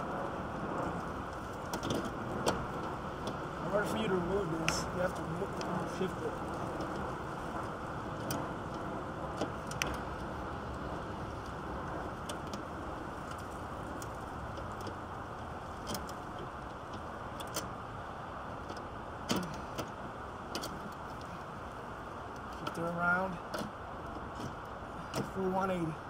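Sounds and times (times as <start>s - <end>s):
low rushing noise: 0.0s - 26.0s.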